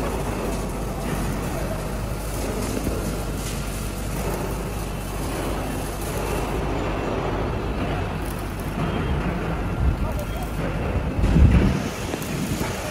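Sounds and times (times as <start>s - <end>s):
constant low hum: 0.0s - 12.9s
factory machinery running: 0.0s - 12.9s.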